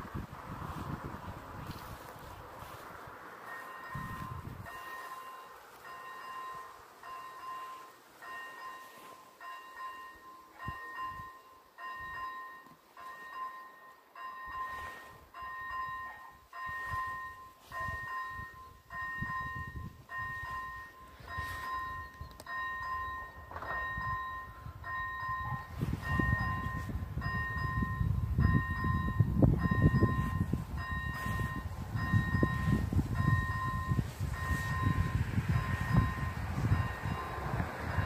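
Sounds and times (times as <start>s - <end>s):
level crossing warning bell: 3.4s - 38.0s.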